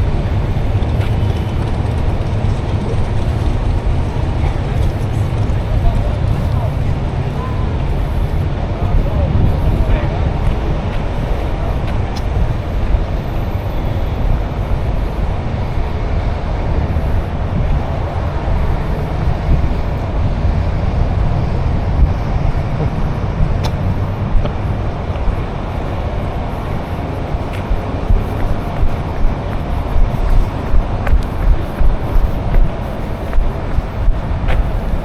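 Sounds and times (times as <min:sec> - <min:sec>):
traffic rumble: 0:00.0 - 0:35.0.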